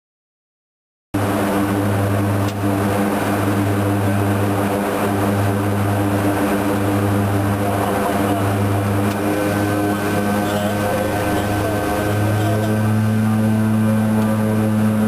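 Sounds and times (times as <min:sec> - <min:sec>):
turboprop engines droning: 0:01.2 - 0:15.0.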